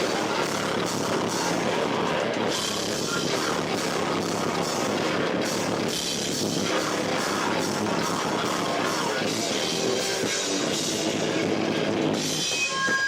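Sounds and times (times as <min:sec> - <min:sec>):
drums: 0:00.0 - 0:13.0
electric guitar: 0:00.0 - 0:13.0
rock band playing live: 0:00.0 - 0:13.0.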